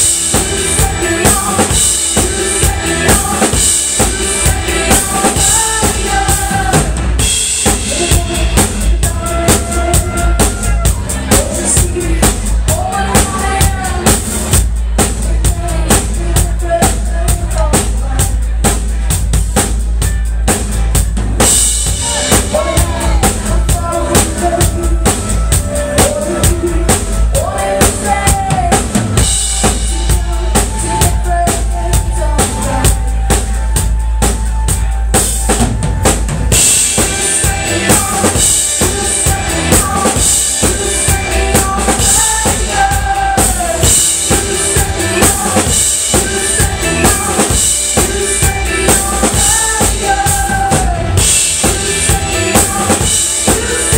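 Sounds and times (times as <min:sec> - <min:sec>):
drum kit beat: 0:00.0 - 0:53.9
live pop-rock band playing: 0:00.0 - 0:53.9.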